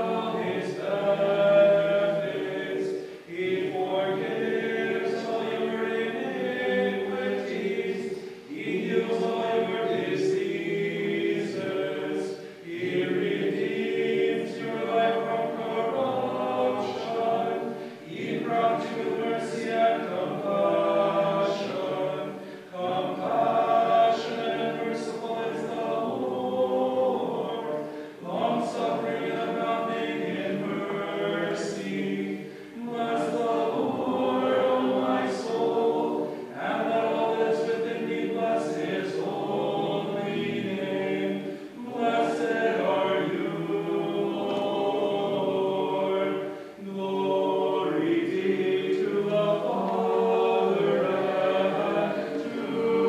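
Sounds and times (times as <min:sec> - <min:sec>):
choir chanting: 0:00.0 - 0:53.0.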